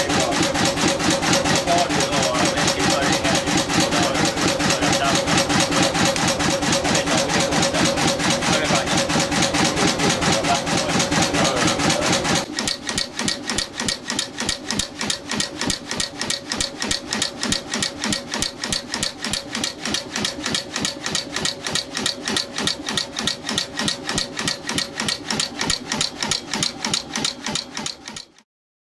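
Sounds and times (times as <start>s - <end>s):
marine engine running rhythmically: 0.0s - 28.4s.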